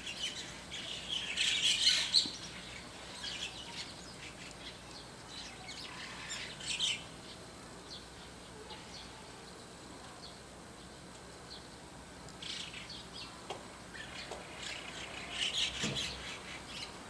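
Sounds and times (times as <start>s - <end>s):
starlings chattering: 0.0s - 17.0s.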